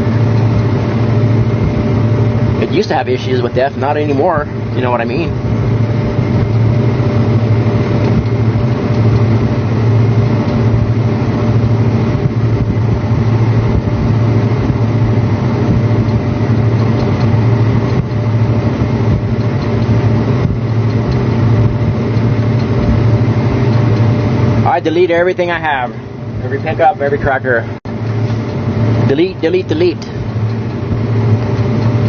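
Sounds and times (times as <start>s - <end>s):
tractor diesel engine droning: 0.0s - 32.0s.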